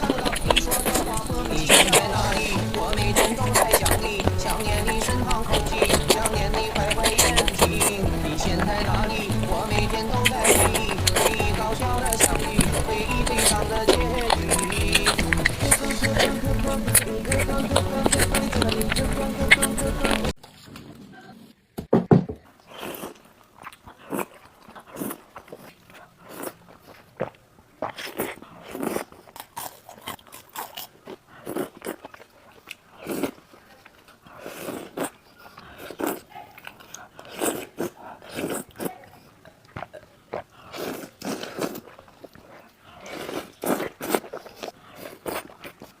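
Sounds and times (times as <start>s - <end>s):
person chewing crunchy food: 0.0s - 20.4s, 22.6s - 46.0s.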